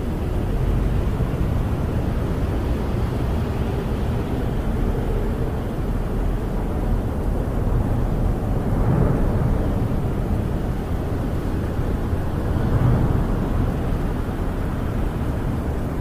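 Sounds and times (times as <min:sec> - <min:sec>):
wind buffeting a camper: 0:00.0 - 0:16.0.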